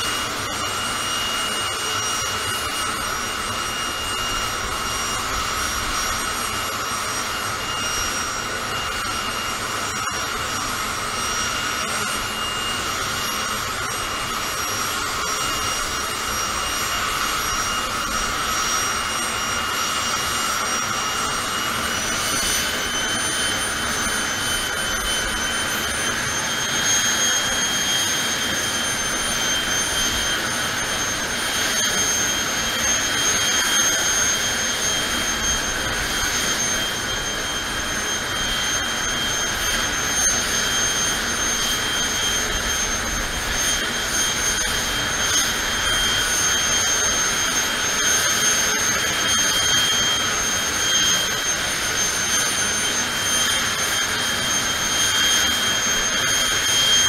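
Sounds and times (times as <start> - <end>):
turbine engine whine and roar: 0.0 - 57.0.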